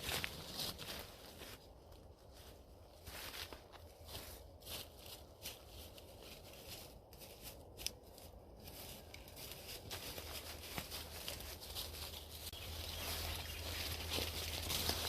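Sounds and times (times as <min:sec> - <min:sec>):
rustling in dry leaf litter: 0:00.0 - 0:15.0.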